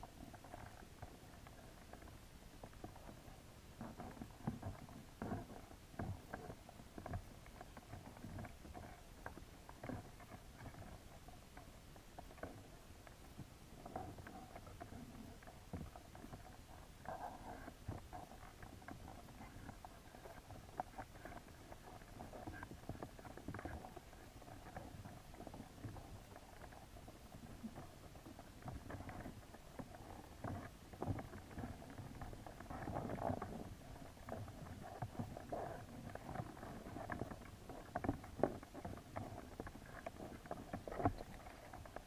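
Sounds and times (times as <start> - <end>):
muffled underwater taps and clicks: 0.0 - 42.0.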